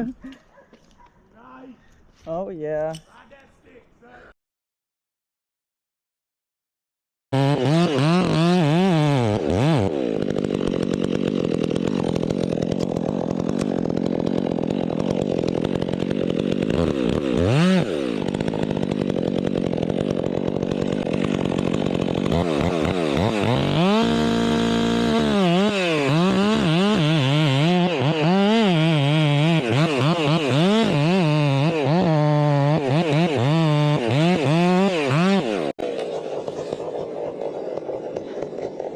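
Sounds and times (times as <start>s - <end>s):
chainsaw cutting wood: 7.4s - 38.9s.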